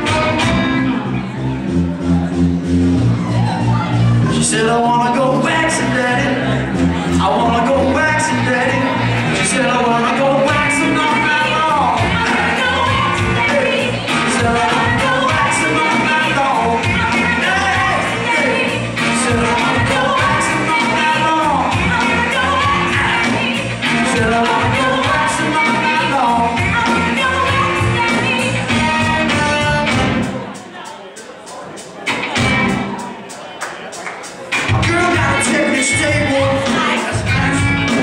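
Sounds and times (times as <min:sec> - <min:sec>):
person singing: 0:00.0 - 0:30.9, 0:34.5 - 0:38.0
live band playing loudly: 0:00.0 - 0:38.0.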